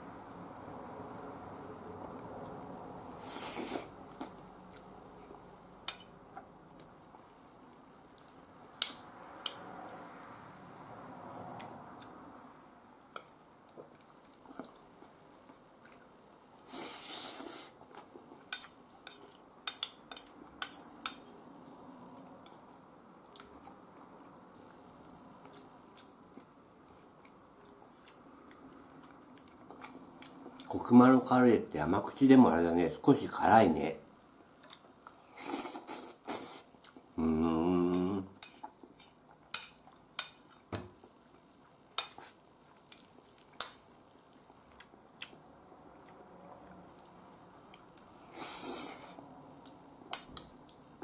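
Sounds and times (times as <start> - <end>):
soft chewing: 2.0 - 30.9, 34.4 - 37.2, 37.9 - 51.0.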